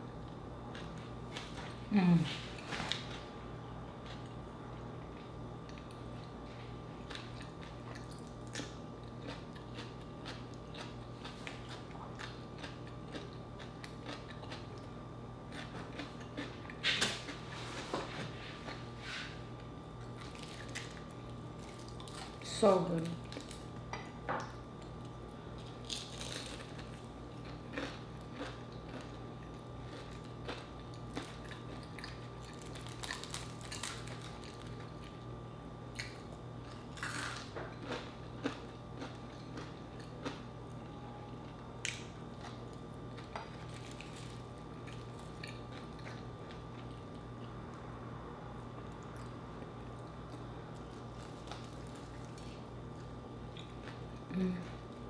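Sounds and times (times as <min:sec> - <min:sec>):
faint steady hum: 0:00.0 - 0:55.0
crunchy fried chicken chewing: 0:05.0 - 0:17.6, 0:18.3 - 0:22.4, 0:23.1 - 0:24.0, 0:24.7 - 0:47.5, 0:48.6 - 0:55.0.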